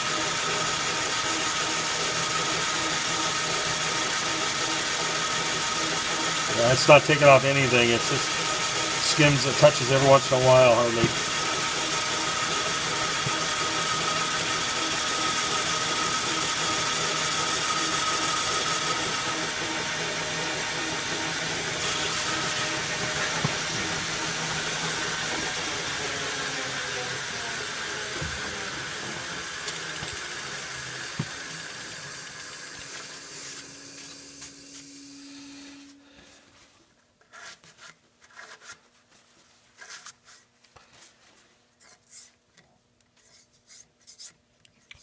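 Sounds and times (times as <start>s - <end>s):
metal lathe humming: 0.0s - 36.1s.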